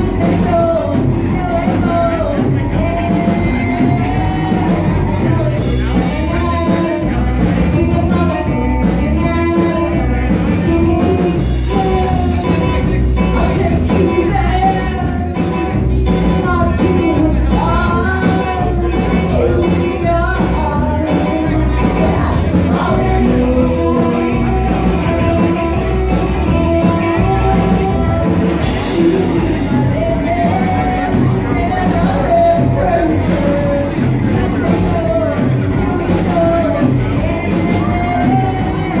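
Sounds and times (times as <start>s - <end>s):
drum kit: 0.0s - 39.0s
electric guitars: 0.0s - 39.0s
woman singing: 0.0s - 39.0s.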